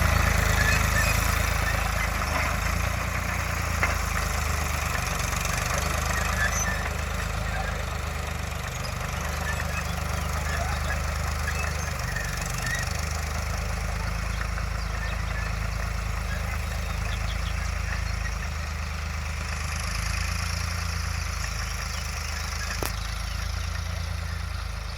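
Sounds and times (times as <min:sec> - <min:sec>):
diesel tractor engine idling: 0:00.0 - 0:24.9.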